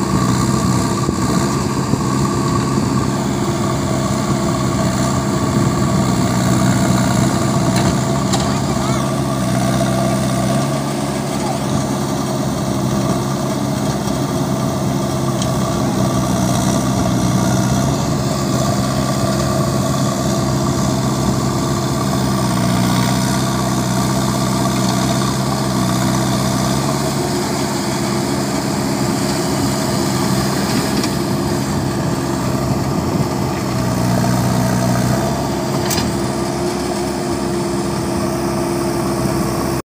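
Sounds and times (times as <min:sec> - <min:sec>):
diesel engine running: 0:00.0 - 0:39.8.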